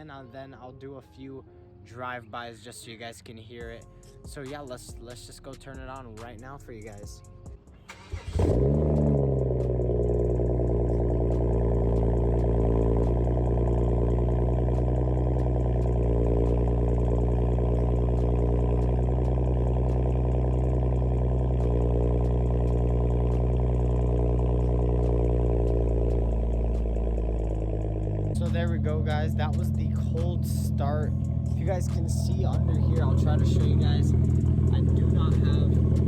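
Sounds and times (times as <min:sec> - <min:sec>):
car engine cold start and idle: 0:03.8 - 0:36.0.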